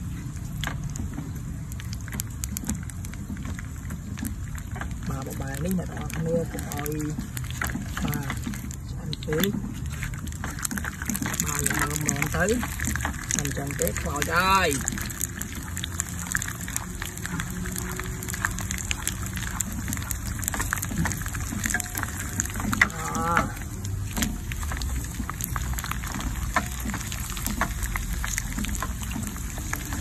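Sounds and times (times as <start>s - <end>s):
fish frying in hot oil: 0.0s - 30.0s
wooden spatula turning food: 0.0s - 30.0s.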